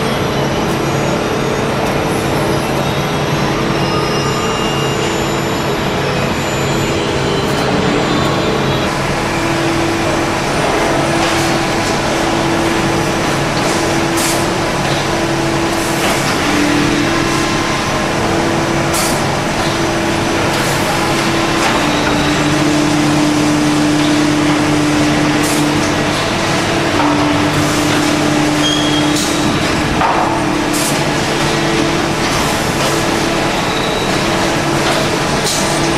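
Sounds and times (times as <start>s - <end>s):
machinery humming: 0.0s - 35.9s.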